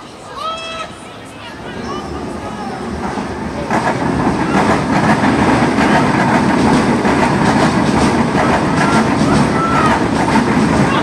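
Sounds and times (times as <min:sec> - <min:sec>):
train rumbling past: 0:00.0 - 0:11.0
wheels clattering on rails: 0:02.0 - 0:11.0.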